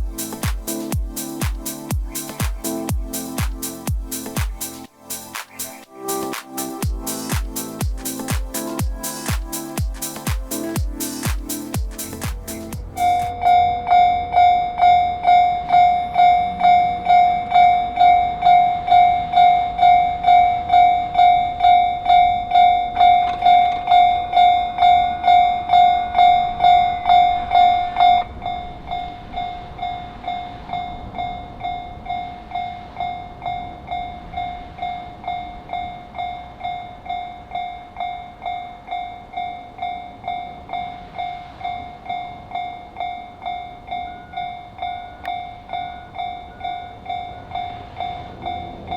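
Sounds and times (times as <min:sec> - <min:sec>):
level-crossing alarm ringing: 0:06.1 - 0:48.9.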